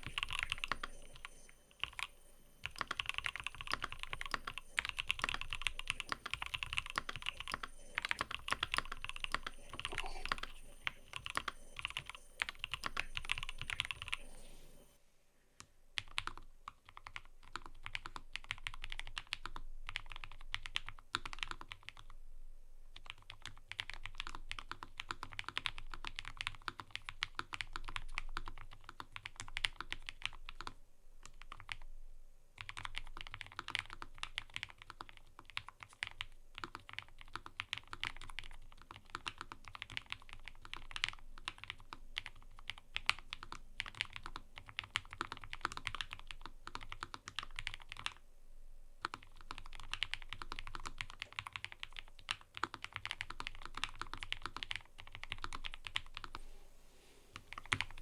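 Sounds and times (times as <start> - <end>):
typing on mechanical keyboard: 0.0 - 14.9, 16.0 - 22.2, 23.0 - 31.9, 32.6 - 48.2, 49.0 - 56.4, 57.5 - 58.0.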